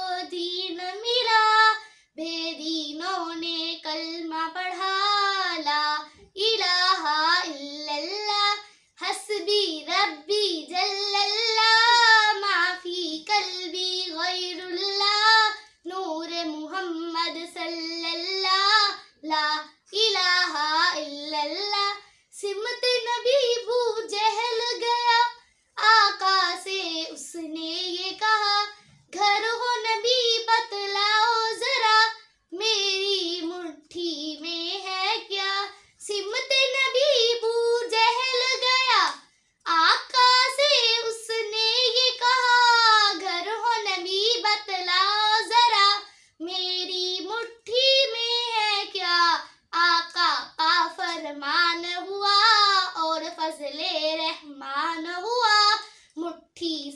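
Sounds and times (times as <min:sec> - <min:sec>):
girl singing unaccompanied: 0:00.0 - 0:56.9.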